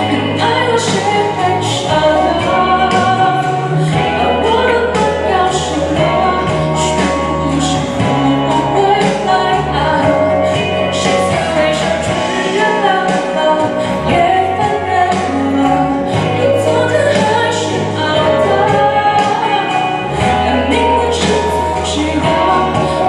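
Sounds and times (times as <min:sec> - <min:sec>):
instrumental accompaniment with beat: 0:00.0 - 0:23.0
woman singing pop ballad: 0:00.0 - 0:23.0.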